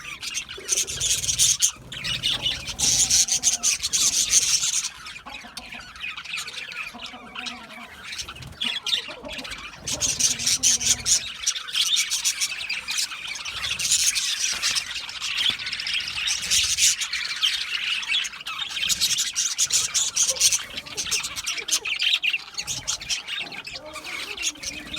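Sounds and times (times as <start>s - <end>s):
budgerigars chattering: 0.0s - 24.9s.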